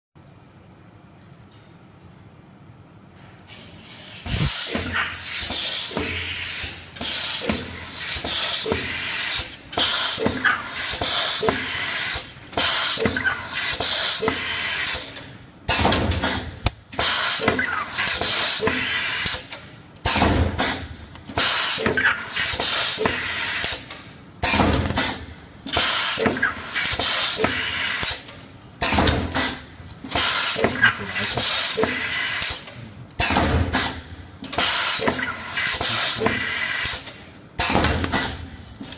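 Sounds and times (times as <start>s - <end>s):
machine hissing and clanking: 3.5s - 38.9s.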